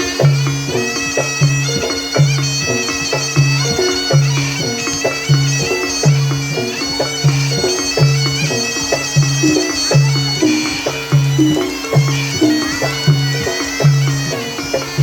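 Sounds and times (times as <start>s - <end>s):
drums: 0.0s - 15.0s
shrill reedy wind instrument: 0.0s - 15.0s.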